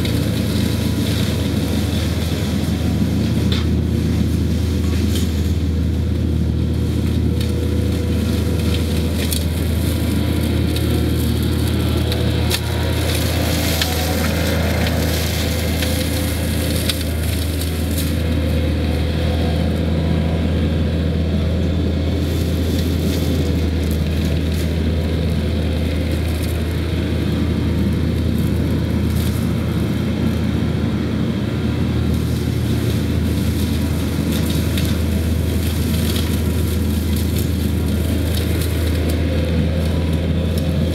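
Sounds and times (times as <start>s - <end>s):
crackling and splintering brush: 0.0s - 40.9s
diesel engine running under load: 0.0s - 40.9s.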